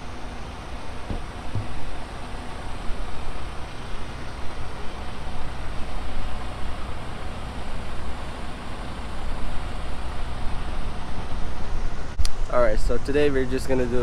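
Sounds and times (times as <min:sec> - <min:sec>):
idling trucks rumbling: 0:00.0 - 0:14.0
road noise hiss: 0:00.0 - 0:14.0.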